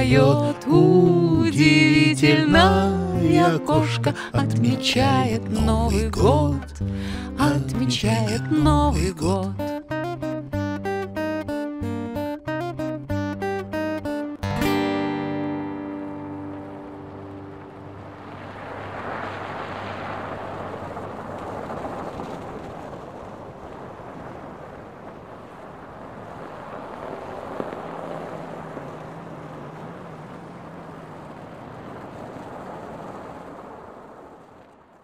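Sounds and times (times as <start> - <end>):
faint engine hum: 0.0 - 9.7, 14.7 - 35.0
city road traffic: 0.0 - 35.0.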